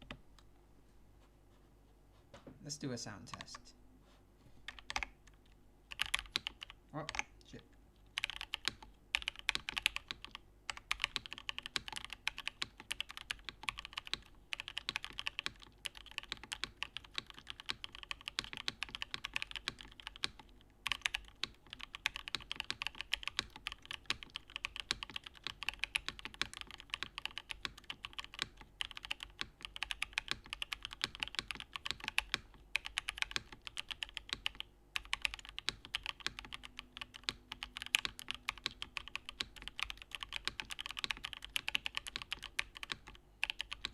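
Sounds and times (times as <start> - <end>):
mechanical keyboard typing: 4.7 - 5.2, 5.9 - 7.3, 8.2 - 43.9.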